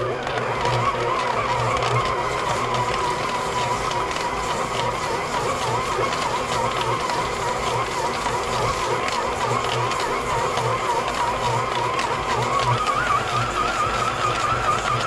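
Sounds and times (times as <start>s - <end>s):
stand mixer motor whine: 0.0s - 15.0s.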